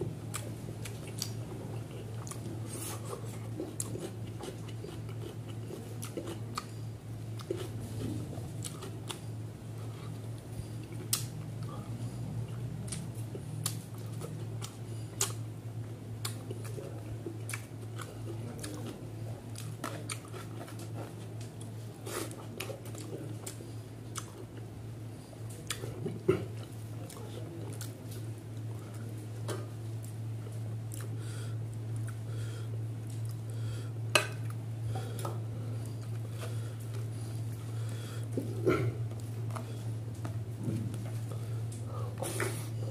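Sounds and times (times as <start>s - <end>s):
person chewing food: 0.0s - 42.9s
steady low hum: 0.0s - 42.9s.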